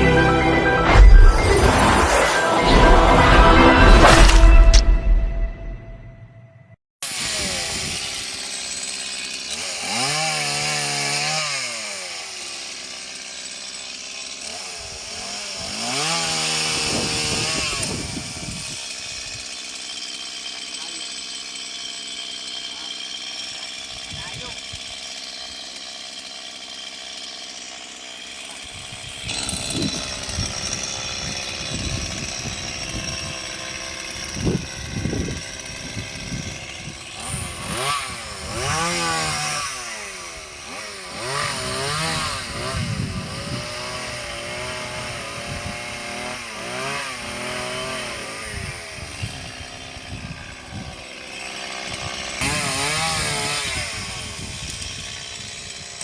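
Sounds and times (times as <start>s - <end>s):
chainsaw cutting branches: 7.0s - 56.0s.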